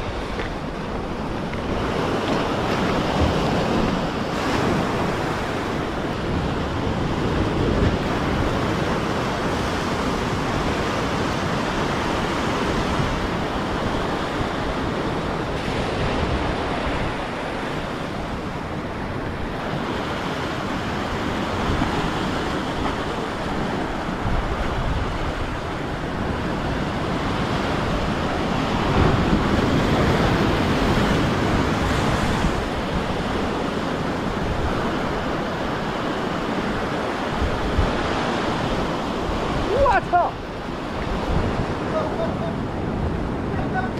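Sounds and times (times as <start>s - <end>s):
ocean surf breaking on rocks: 0.0s - 43.9s.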